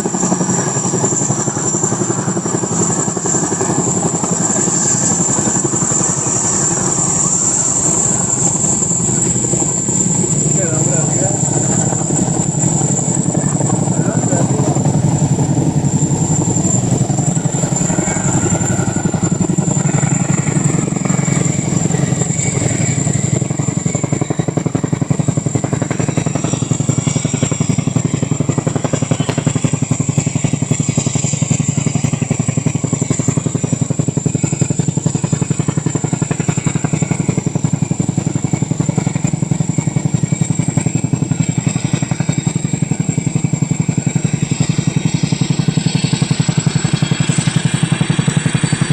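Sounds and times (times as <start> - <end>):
helicopter rotor beat: 0.0 - 48.9
turbine whine: 0.0 - 48.9.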